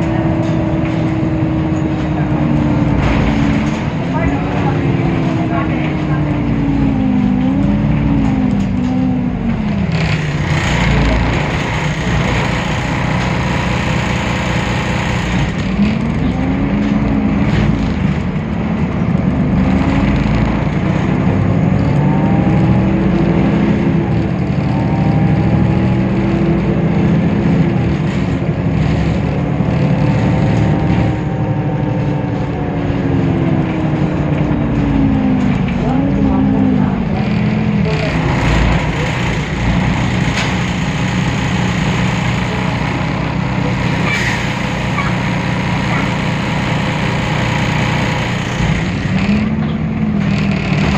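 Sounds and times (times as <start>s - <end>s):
bus diesel engine running: 0.0s - 50.9s
road noise: 0.0s - 50.9s.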